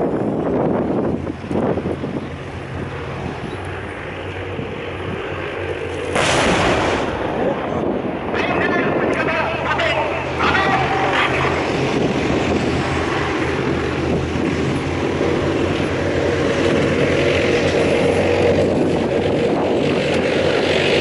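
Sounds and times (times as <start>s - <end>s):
tank engine drone: 0.0s - 21.0s.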